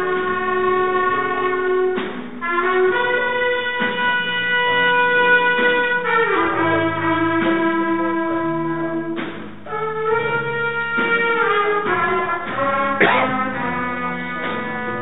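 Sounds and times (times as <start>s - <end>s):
horn section playing long notes: 0.0s - 9.1s, 9.7s - 15.0s.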